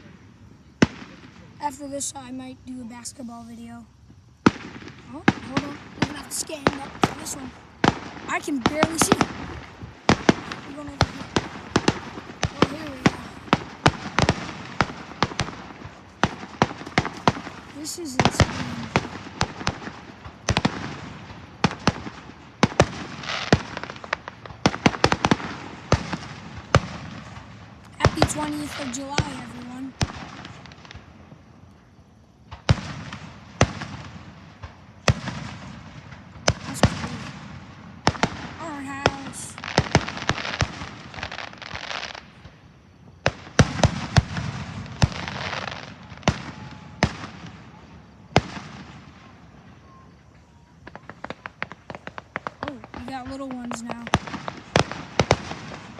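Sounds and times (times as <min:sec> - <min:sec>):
firework hiss: 0:00.0 - 0:31.1, 0:32.5 - 0:50.2
fireworks bangs and cracks: 0:00.0 - 0:31.6, 0:32.4 - 0:55.9.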